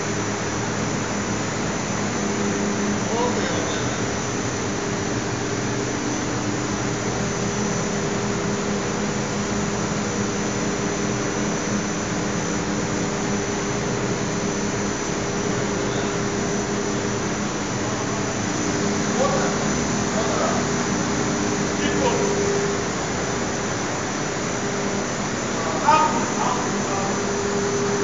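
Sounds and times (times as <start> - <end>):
continuous low hum: 0.0 - 28.0
fans and blowers running: 0.0 - 28.0.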